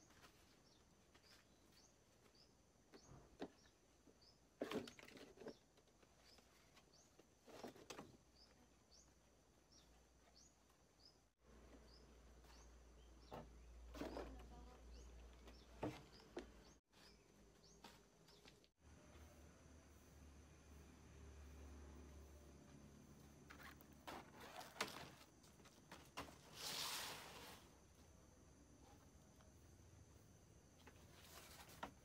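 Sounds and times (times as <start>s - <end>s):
faint outdoor ambience: 0.0s - 32.0s.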